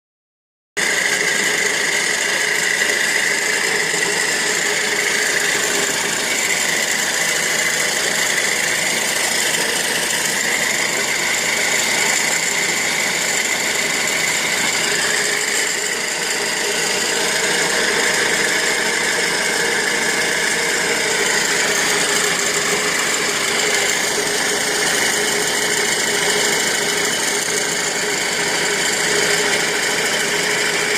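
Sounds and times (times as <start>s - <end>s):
rasping whirring car noise: 0.8s - 30.9s.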